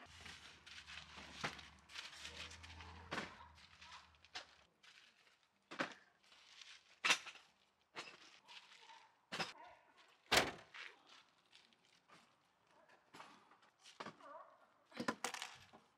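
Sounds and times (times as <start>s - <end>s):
rustling and shuffling: 0.0s - 9.2s, 9.8s - 14.2s.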